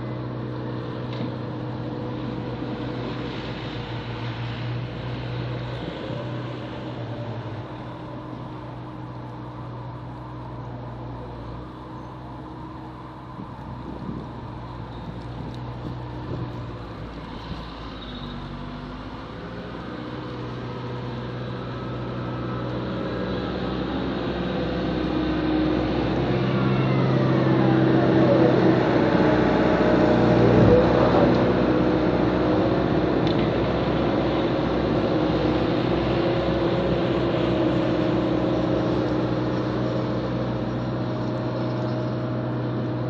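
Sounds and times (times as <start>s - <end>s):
snow-removal vehicle engine running: 0.0s - 43.0s.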